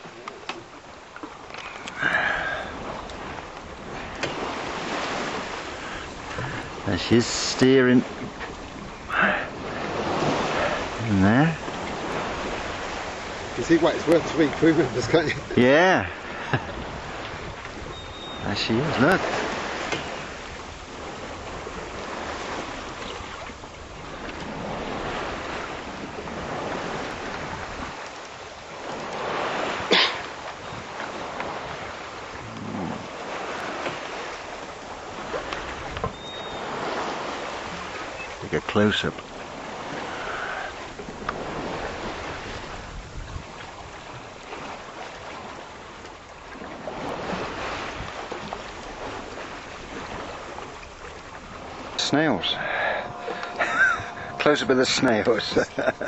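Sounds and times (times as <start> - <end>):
water rushing past a hull: 0.0 - 56.0
wind buffeting the microphone: 1.5 - 38.3, 39.2 - 56.0.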